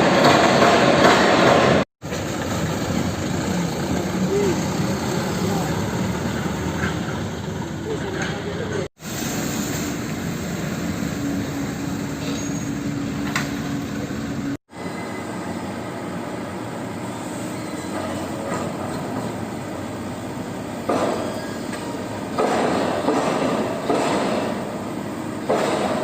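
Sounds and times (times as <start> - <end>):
diesel machinery engine: 0.0 - 8.9, 9.7 - 25.6.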